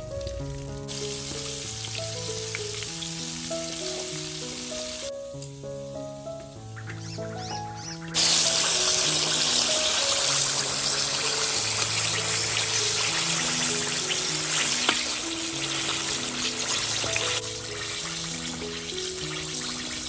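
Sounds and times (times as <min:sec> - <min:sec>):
background music: 0:00.0 - 0:20.0
chicken sizzling in hot oil: 0:00.9 - 0:05.1, 0:08.1 - 0:20.0.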